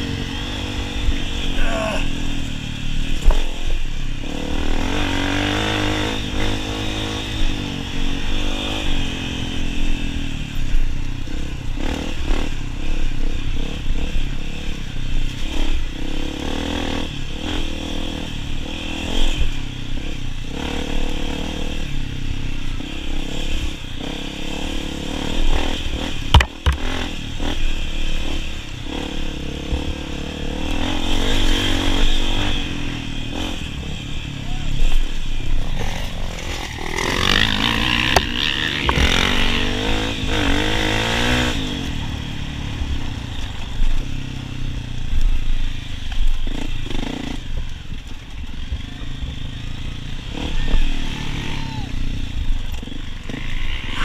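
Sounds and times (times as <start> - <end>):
dirt bike engine revving: 0.0 - 44.0, 45.4 - 47.8, 48.7 - 54.0.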